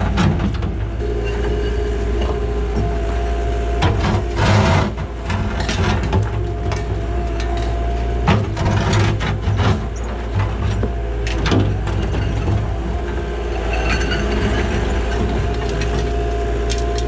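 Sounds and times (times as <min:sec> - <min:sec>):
excavator diesel engine running: 0:00.0 - 0:17.0
hydraulic whine: 0:00.0 - 0:17.0.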